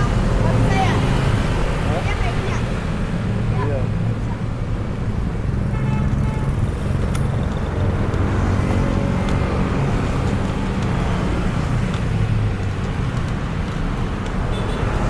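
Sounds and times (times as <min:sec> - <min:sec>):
road traffic engines rumbling: 0:00.0 - 0:15.0.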